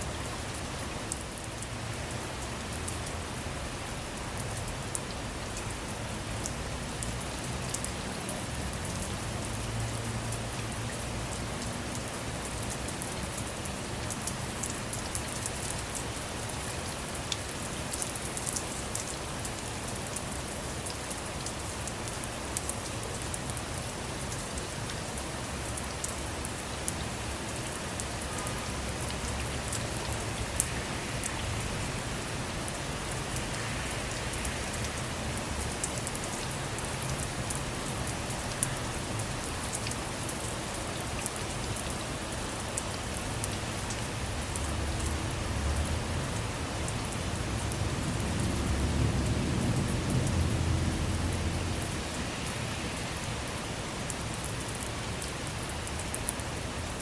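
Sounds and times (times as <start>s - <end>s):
rain on a car roof: 0.0s - 57.0s.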